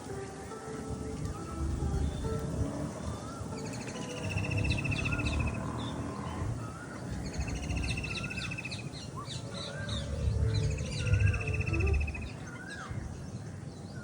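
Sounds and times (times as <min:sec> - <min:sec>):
steady low rumble: 0:00.0 - 0:13.9
birds trilling and chirping: 0:00.0 - 0:14.0.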